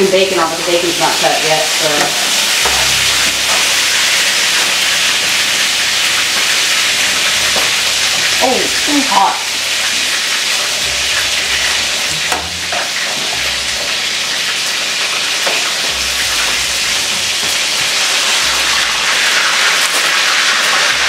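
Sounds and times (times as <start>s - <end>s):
patties sizzling in pan: 0.0s - 21.0s.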